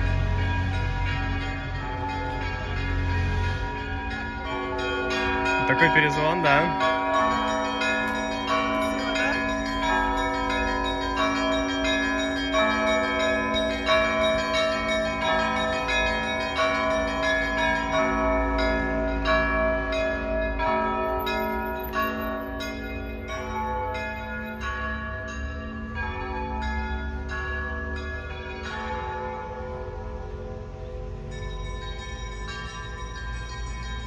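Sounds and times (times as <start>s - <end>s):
church bells ringing: 0.0s - 34.0s.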